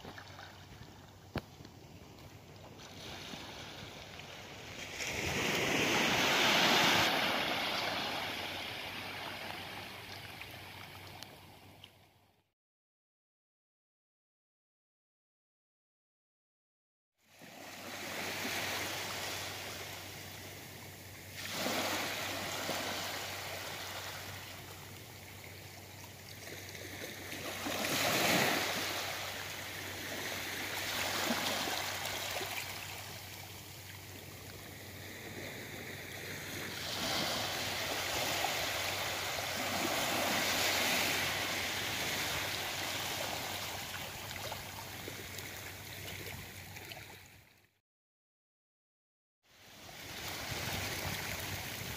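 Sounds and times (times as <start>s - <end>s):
small waves lapping on shore: 0.0s - 12.1s, 17.3s - 47.6s, 49.6s - 51.9s.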